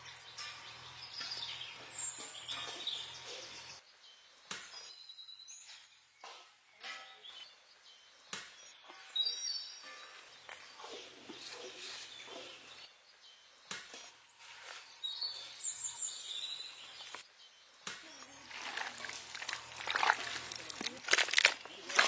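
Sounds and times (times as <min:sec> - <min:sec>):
birds chirping: 0:00.0 - 0:22.0
outdoor background noise: 0:00.0 - 0:22.0.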